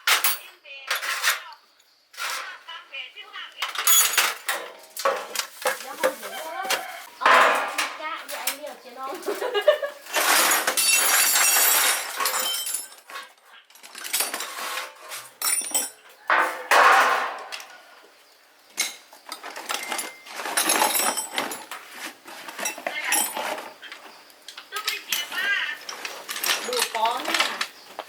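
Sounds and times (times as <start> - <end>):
metal clinks and knocks: 0.0 - 2.6, 3.6 - 17.9, 18.7 - 28.0
metal tools clattering and scraping: 0.0 - 2.8, 3.6 - 28.0.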